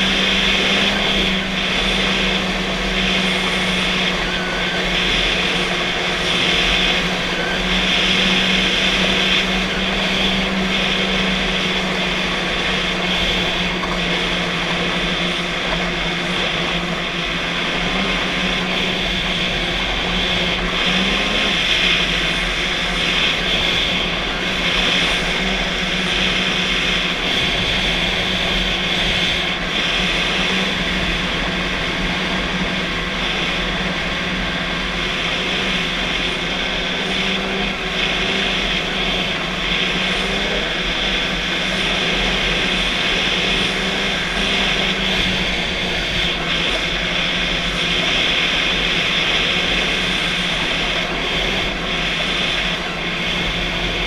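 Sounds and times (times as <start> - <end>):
snowmobile engine droning: 0.0 - 54.0.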